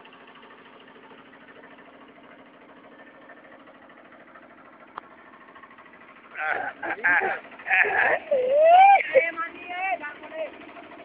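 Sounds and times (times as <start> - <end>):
water pump engine humming: 0.0 - 11.0.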